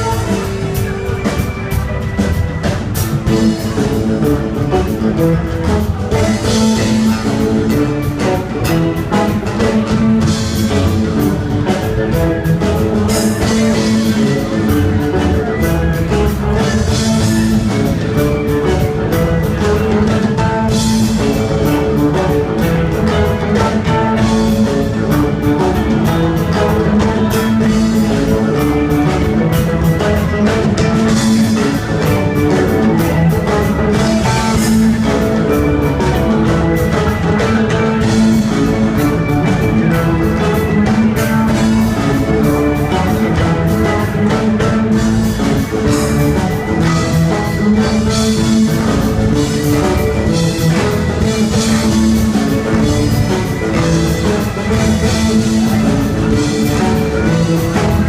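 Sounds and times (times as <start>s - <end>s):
bass guitar: 0.0s - 58.0s
drum kit: 0.0s - 58.0s
electric guitars: 0.0s - 58.0s
keyboards: 0.0s - 58.0s.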